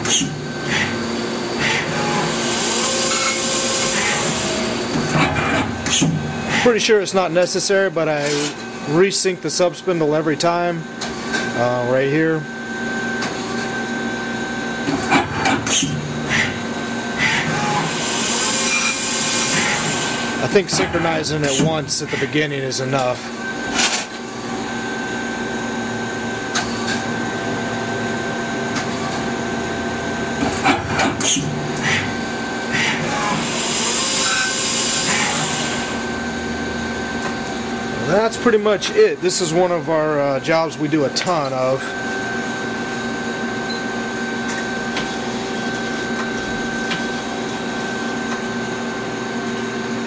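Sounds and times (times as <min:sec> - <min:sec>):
machine whining tones: 0:00.0 - 0:07.0, 0:11.3 - 0:50.0
lathe machine hum: 0:00.0 - 0:07.4, 0:12.2 - 0:50.0.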